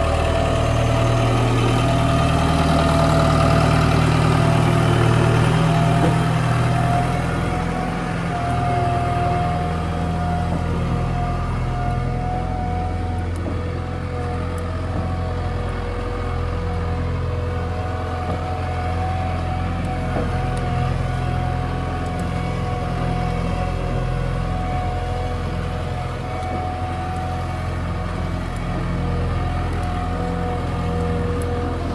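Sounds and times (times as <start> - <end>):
backhoe diesel engine running: 0.0 - 31.9.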